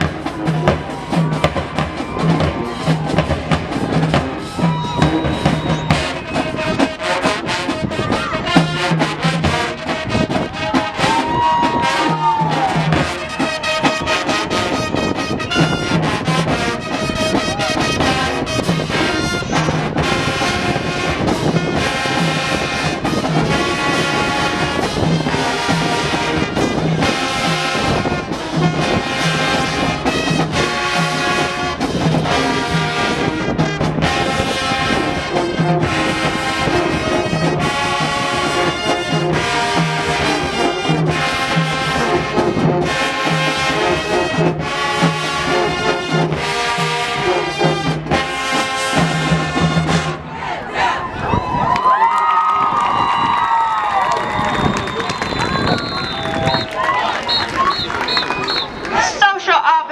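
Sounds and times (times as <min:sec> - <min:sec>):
marching band playing: 0:00.0 - 0:51.1, 0:52.6 - 0:59.9.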